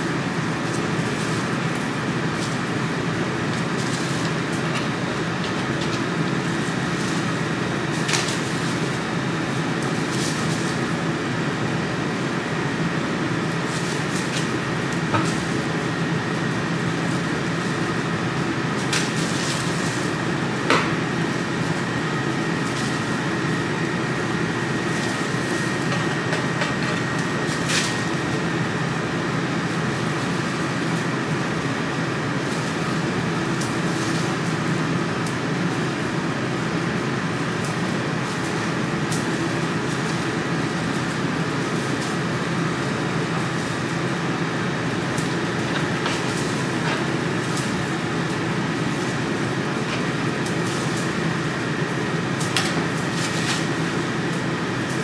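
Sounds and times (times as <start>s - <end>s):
kitchen machinery humming: 0.0s - 55.0s.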